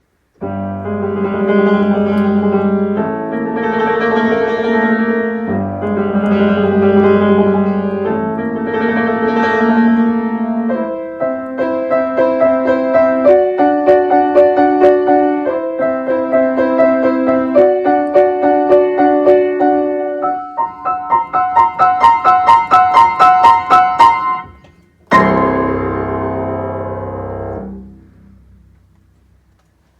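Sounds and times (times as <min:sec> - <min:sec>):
solo piano piece: 0:00.0 - 0:29.9.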